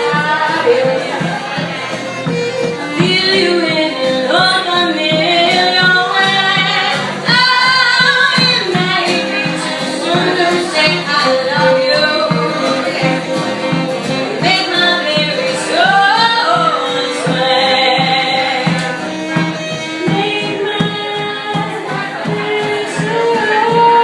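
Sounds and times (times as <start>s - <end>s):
women singing: 0.0s - 1.7s, 2.7s - 24.0s
instrumental accompaniment with beat: 0.0s - 24.0s.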